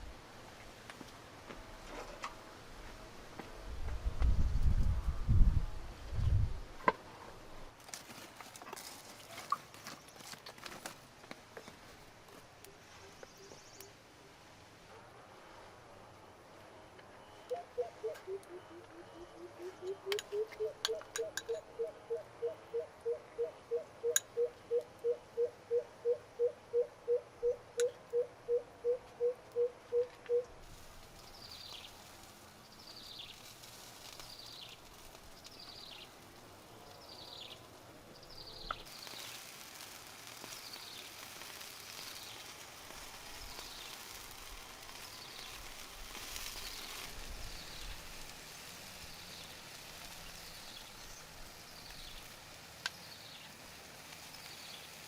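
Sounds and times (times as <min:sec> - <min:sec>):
faint outdoor background noise: 0:00.0 - 0:55.0.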